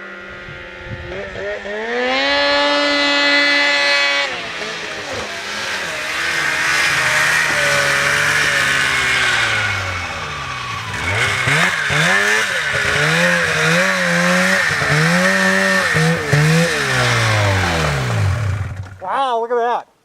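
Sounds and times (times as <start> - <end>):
snowmobile engine revving: 0.0 - 19.4.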